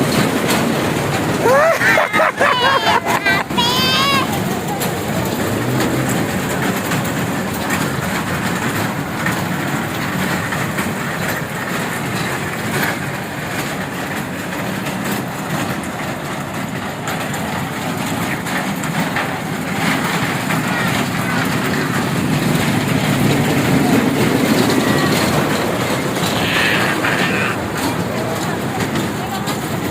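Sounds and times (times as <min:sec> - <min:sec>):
train rumbling and rattling: 0:00.0 - 0:29.9.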